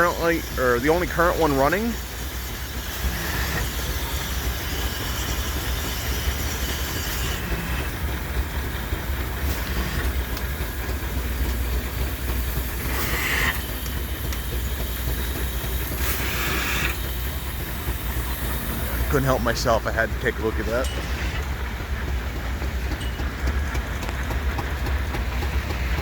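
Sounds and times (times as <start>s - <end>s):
loud steam hisses: 0.0s - 22.8s
steam engine running: 0.0s - 26.0s.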